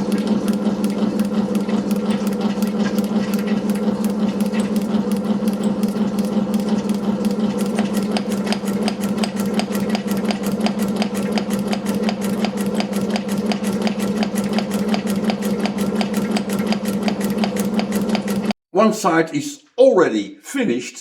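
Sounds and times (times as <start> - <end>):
metal shaper machine hum: 0.0 - 18.5.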